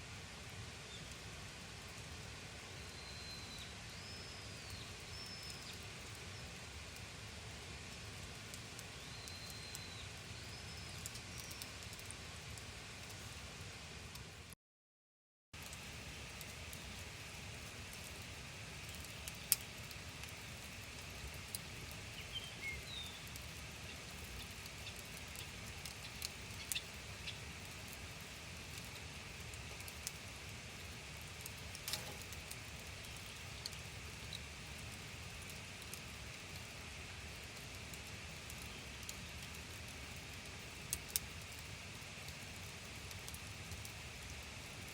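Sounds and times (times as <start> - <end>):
constant high hum: 0.0 - 14.5, 15.6 - 44.9
fire hissing: 0.0 - 14.6, 15.6 - 44.9
campfire crackling and popping: 0.3 - 14.4, 15.6 - 44.9.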